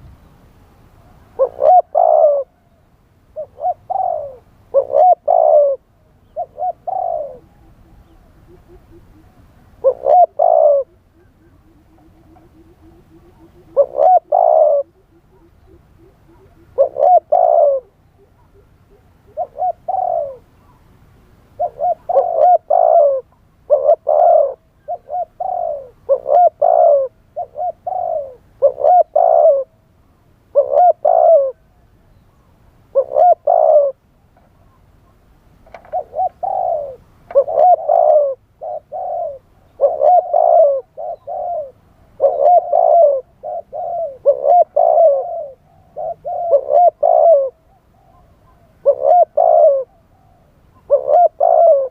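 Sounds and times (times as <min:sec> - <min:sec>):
dove cooing: 0:01.0 - 0:20.8, 0:21.6 - 0:29.8, 0:30.5 - 0:32.2, 0:32.9 - 0:51.9.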